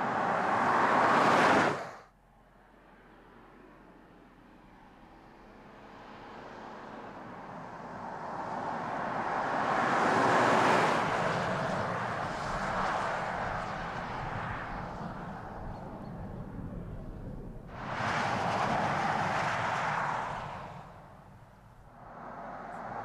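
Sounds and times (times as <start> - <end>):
car tyre and wind hiss: 0.0 - 2.1, 5.6 - 23.0.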